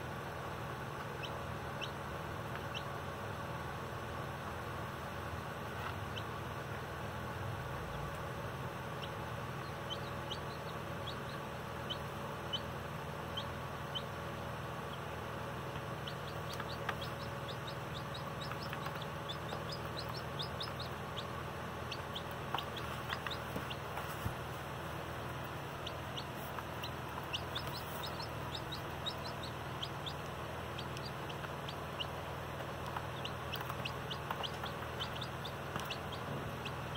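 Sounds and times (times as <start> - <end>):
steady low hum: 0.0 - 36.9
baby chicks peeping: 0.1 - 36.9.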